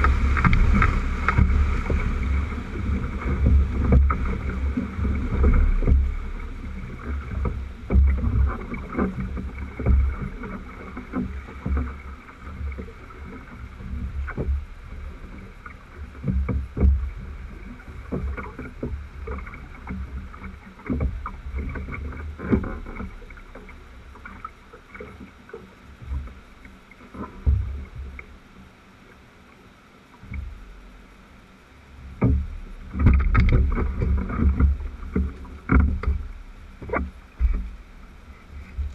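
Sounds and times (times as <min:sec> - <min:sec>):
knocks and thumps of boat and oars: 0:00.0 - 0:38.9
river rushing around hull: 0:00.0 - 0:38.9
water slapping hull: 0:00.0 - 0:38.9.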